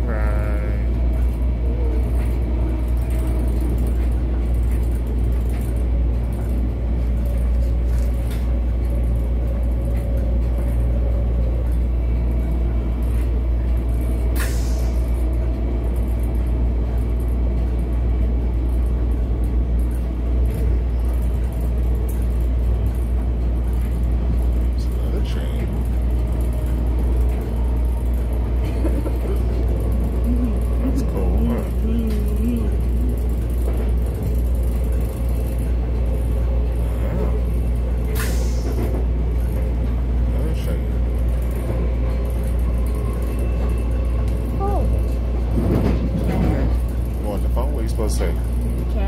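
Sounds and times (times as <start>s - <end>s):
train car rumble: 0.0s - 49.0s.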